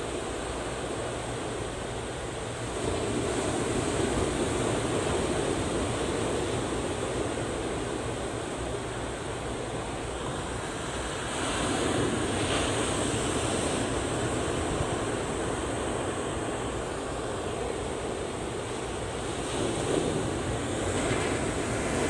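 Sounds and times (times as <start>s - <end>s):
waves washing over rocks: 0.0s - 22.0s.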